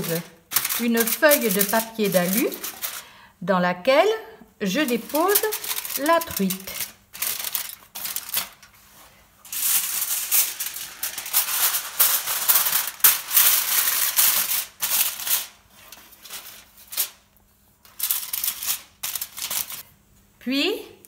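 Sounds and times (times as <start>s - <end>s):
aluminium foil crinkling: 0.0s - 3.2s, 4.7s - 19.9s.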